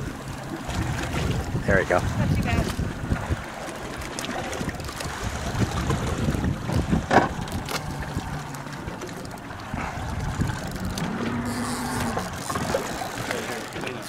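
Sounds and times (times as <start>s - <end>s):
wind buffeting microphone: 0.0s - 13.5s
water lapping against boat hull: 0.0s - 14.0s.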